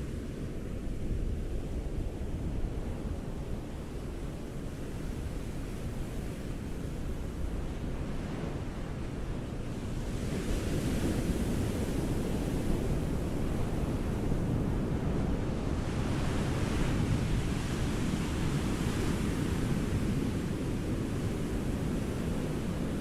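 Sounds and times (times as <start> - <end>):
ocean waves breaking on beach: 0.8 - 23.0.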